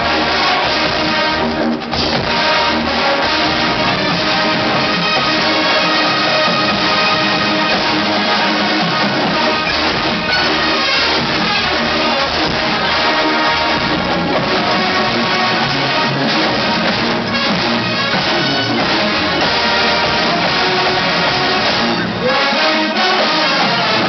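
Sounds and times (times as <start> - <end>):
marching band playing rock: 0.0 - 24.0.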